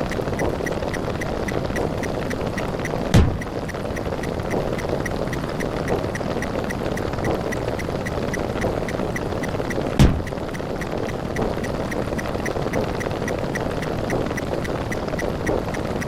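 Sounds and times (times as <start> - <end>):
regular ticking: 0.0 - 16.0.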